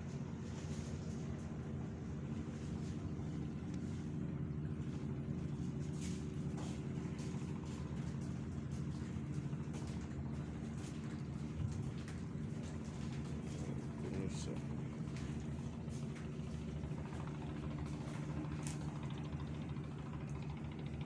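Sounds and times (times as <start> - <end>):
ship engine drone: 0.0 - 21.0.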